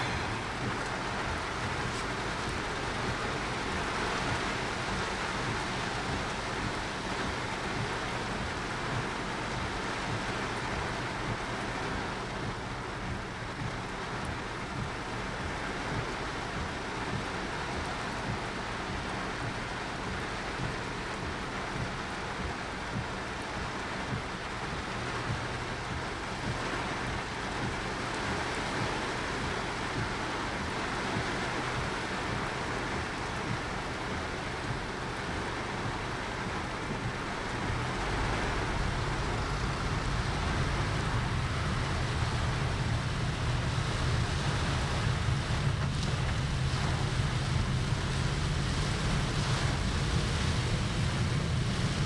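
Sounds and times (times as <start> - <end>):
heavy rain on a car: 0.0 - 52.0
road rumble: 0.0 - 52.0.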